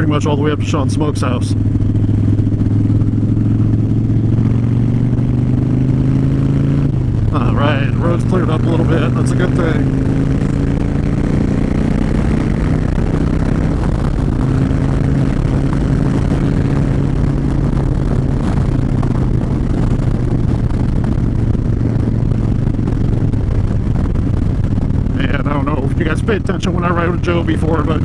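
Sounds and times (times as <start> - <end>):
loud wind noise: 0.0 - 28.0
motorcycle engine running: 0.0 - 28.0.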